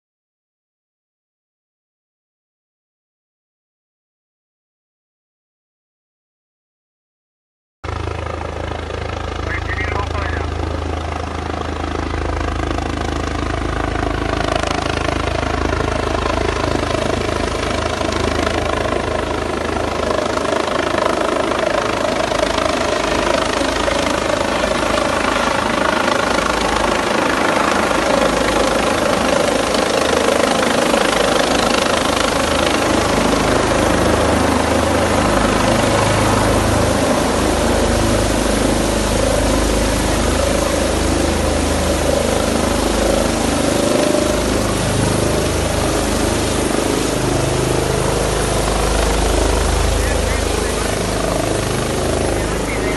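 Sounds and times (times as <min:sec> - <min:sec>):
helicopter rotor and turbine: 0:07.8 - 0:52.9.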